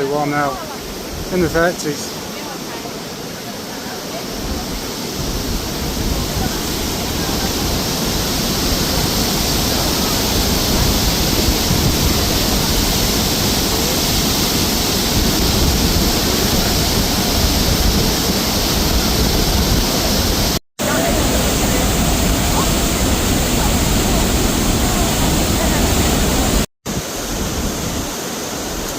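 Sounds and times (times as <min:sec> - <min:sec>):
rushing whitewater roar: 0:00.0 - 0:28.9
wind buffeting microphone: 0:00.6 - 0:01.7, 0:04.2 - 0:28.9.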